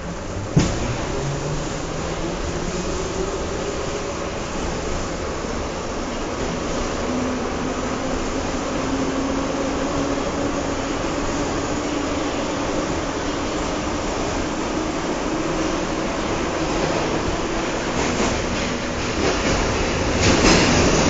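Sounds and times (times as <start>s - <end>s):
subway car rumble and rush: 0.0s - 21.0s.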